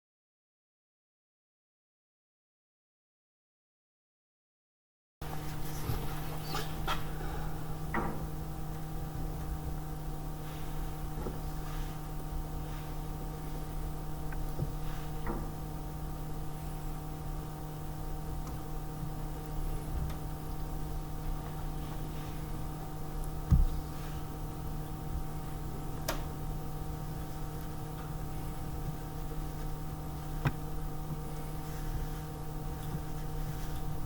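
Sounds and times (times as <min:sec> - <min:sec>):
steady low hum: 0:05.2 - 0:34.0.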